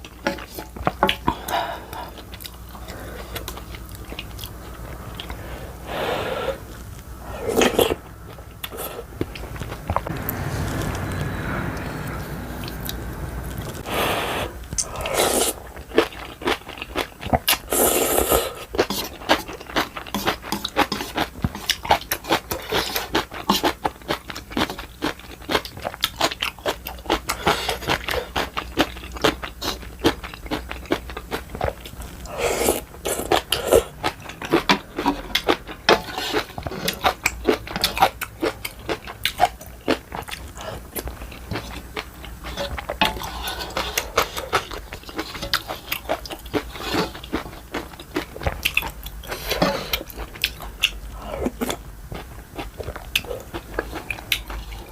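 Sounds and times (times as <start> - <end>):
chewing and crunching food: 0.0 - 5.5, 6.6 - 14.0, 14.6 - 54.9.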